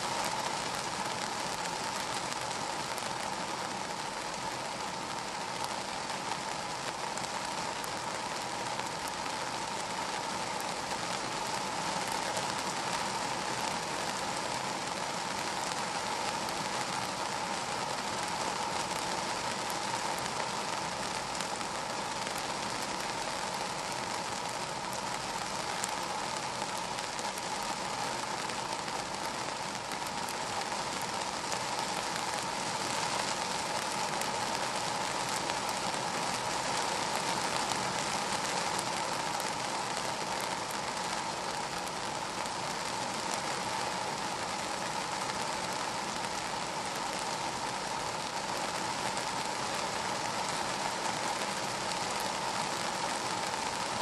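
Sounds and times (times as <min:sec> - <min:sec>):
rain on car glass and roof: 0:00.0 - 0:54.0.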